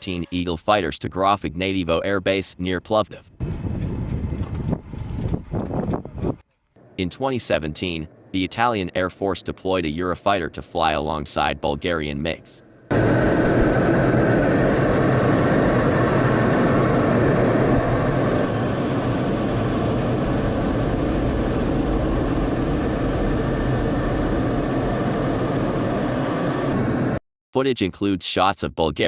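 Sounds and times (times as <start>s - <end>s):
jet engine running: 3.4s - 27.2s.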